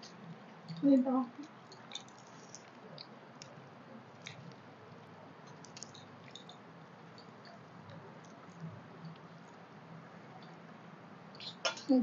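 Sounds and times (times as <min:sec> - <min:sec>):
people chewing and squishing food: 0:00.0 - 0:12.0.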